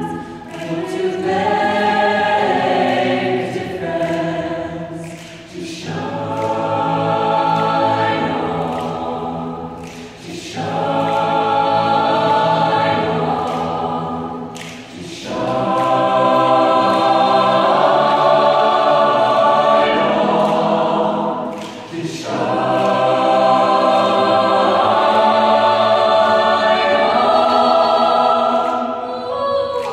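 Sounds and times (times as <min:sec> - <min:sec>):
mixed choir singing a cappella: 0:00.0 - 0:29.9.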